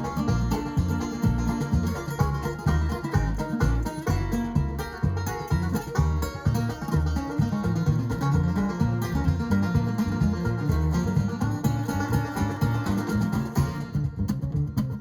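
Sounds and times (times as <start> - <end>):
bass line: 0.0 - 15.0
guitar and plucked strings: 0.0 - 15.0
percussion: 0.0 - 15.0.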